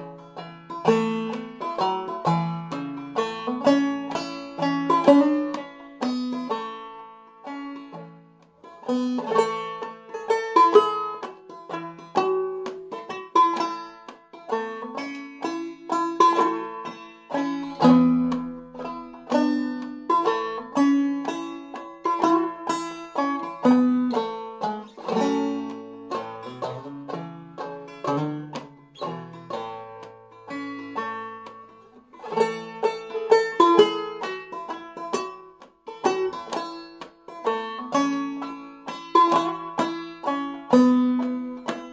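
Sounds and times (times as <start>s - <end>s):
banjo playing slow waltz: 0.0s - 41.9s.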